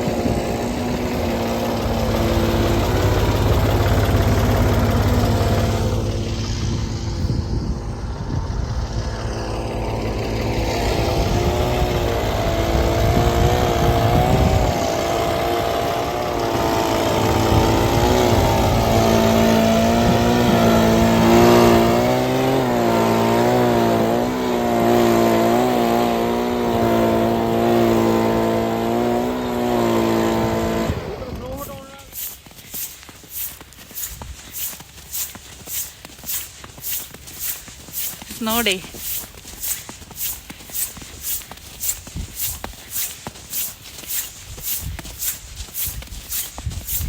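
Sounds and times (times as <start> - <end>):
tractor engine revving: 0.0 - 47.0.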